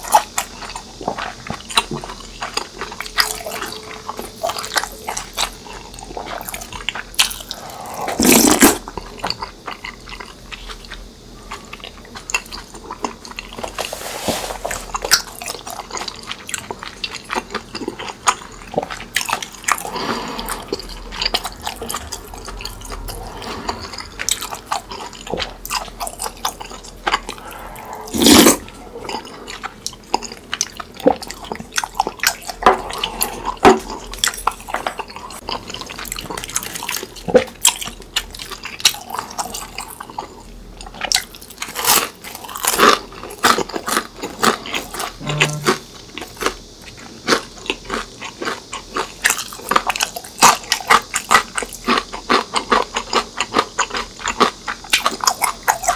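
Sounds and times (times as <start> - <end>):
crunching fried food: 0.0 - 55.9.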